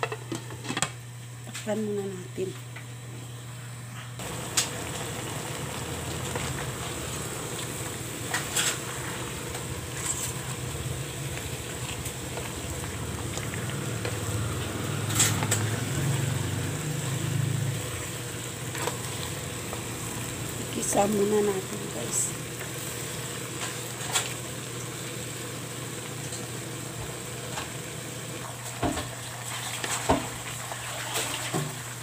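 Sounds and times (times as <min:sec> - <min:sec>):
chicken sizzling in frying pan: 0:04.2 - 0:32.0.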